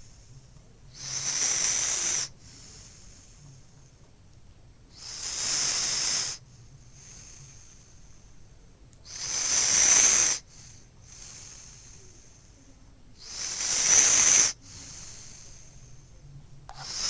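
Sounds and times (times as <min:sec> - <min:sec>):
loud hissing snoring: 0:00.0 - 0:04.0, 0:04.9 - 0:17.0.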